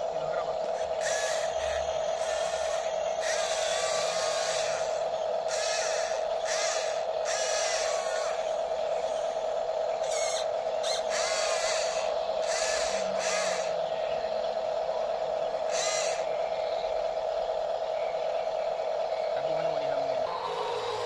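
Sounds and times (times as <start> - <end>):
electric drive whine: 0.0 - 21.0
high-pitched whirring bursts: 0.0 - 21.0.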